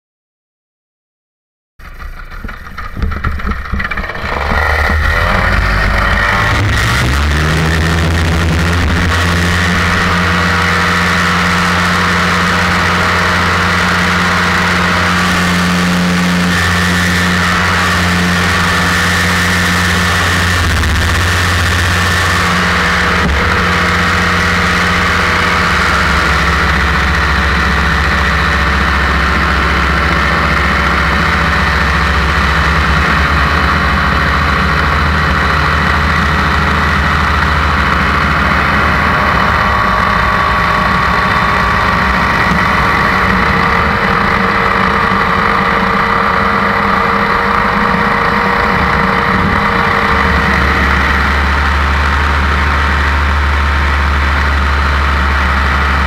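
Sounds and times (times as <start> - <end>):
paramotor engine drone: 1.8 - 56.0.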